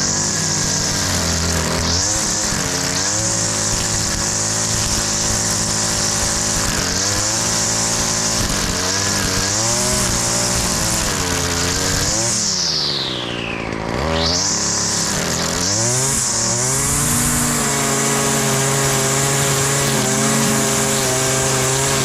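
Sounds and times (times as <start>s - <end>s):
string trimmer engine whining: 0.0s - 22.0s.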